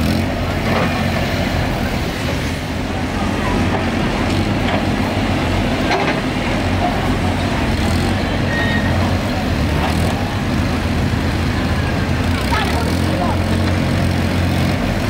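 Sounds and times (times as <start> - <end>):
dumper engine running: 0.0 - 15.0.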